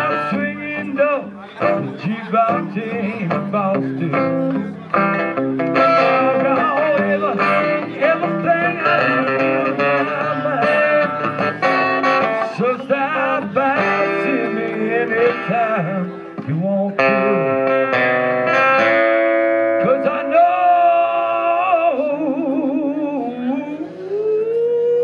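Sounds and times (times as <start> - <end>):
guitar playing: 0.0 - 25.0
man singing: 0.0 - 25.0.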